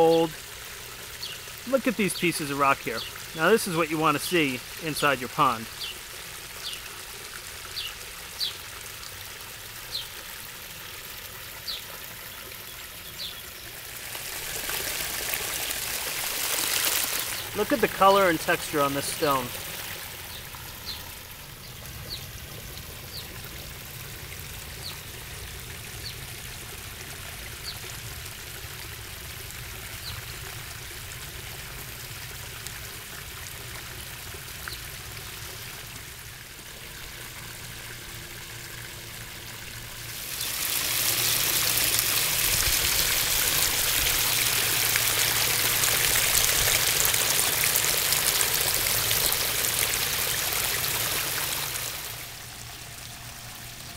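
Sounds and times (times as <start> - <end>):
waterfall splashing and trickling: 0.0 - 53.9.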